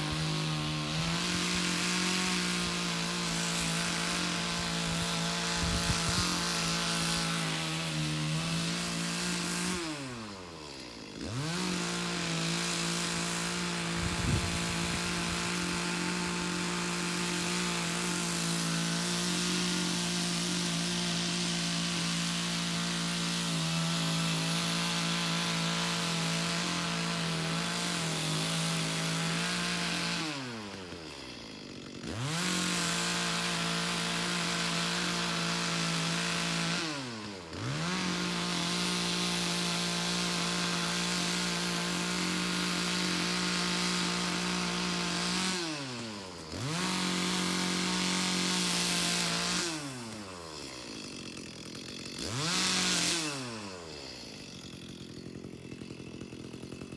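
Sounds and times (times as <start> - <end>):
chainsaw revving while cutting logs: 0.0 - 56.9.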